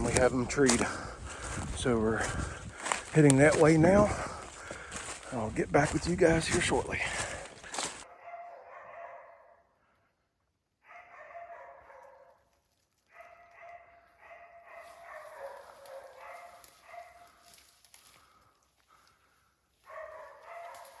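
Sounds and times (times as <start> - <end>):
faint dogs barking: 0.0 - 10.1, 10.8 - 12.5, 13.1 - 17.6, 18.2 - 21.0.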